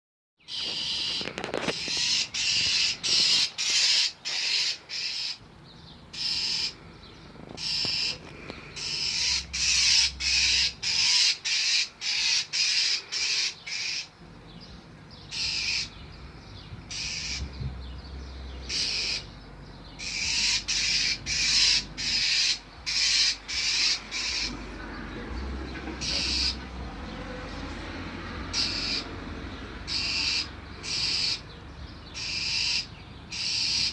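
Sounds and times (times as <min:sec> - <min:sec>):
bird harsh scolding calls: 0:00.4 - 0:27.7, 0:28.3 - 0:33.9.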